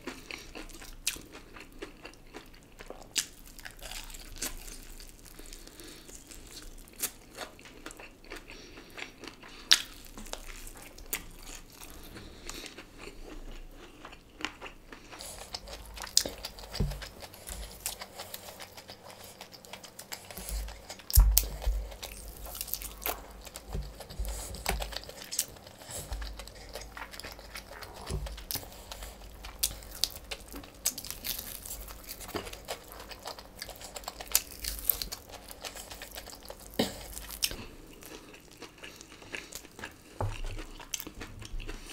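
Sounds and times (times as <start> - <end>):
wet chewing: 0.0 - 41.9.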